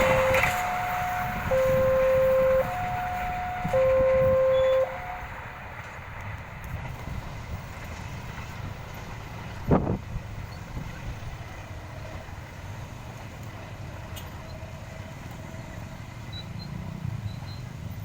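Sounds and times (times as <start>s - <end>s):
motor vehicles rumbling: 0.0s - 18.0s.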